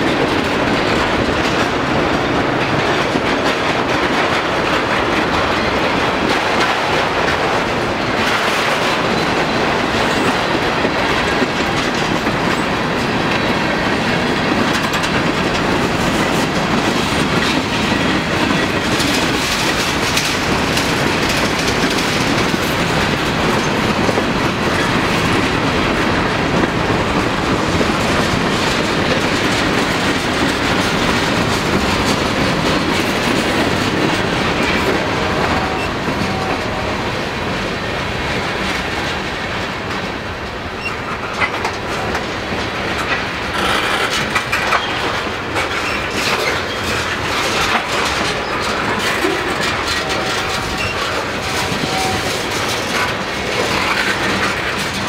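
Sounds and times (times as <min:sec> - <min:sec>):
freight train wheels rumbling on rail: 0:00.0 - 0:55.0.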